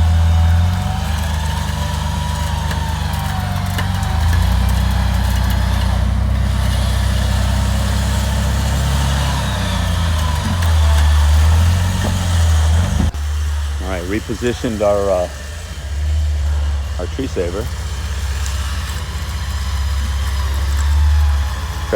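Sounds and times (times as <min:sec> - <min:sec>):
off-road vehicle engine under load: 0:00.0 - 0:21.9.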